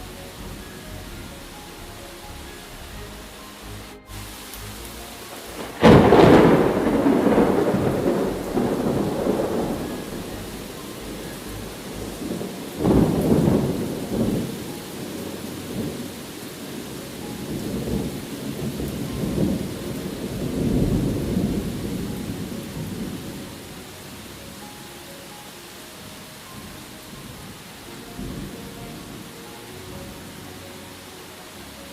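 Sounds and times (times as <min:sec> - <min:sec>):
thunder rumbling: 0:00.0 - 0:25.1, 0:26.0 - 0:31.0
steady rain: 0:00.0 - 0:31.9.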